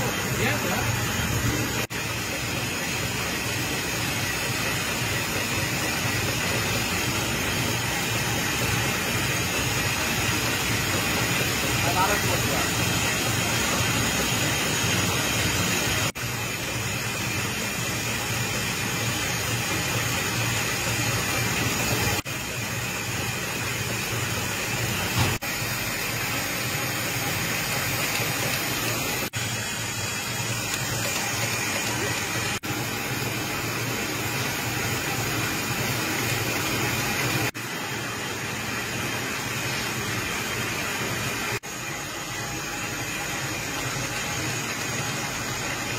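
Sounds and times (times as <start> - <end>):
mechanical hum and hiss: 0.0 - 45.9.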